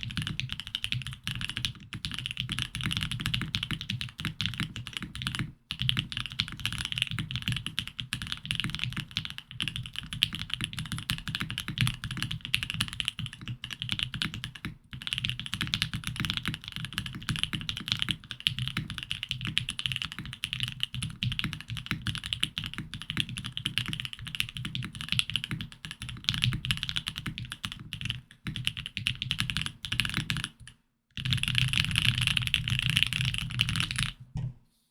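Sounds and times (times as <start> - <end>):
fast mechanical keyboard typing: 0.0 - 34.2.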